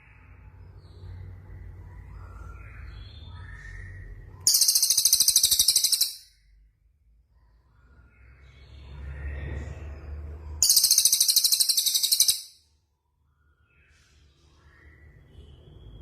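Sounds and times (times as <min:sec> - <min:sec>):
songbird chirping and trilling: 0:00.0 - 0:06.6, 0:07.3 - 0:16.0.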